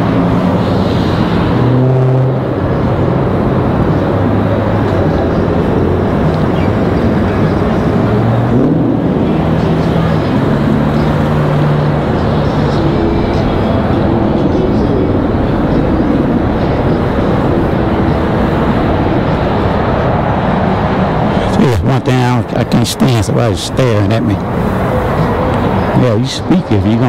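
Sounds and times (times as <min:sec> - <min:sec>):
city traffic: 0:00.0 - 0:27.0
vehicle engine speeding up: 0:00.0 - 0:27.0.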